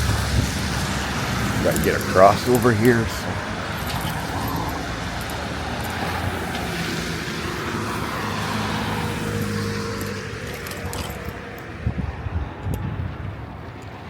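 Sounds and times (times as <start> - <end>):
car passing by: 0.0 - 12.3.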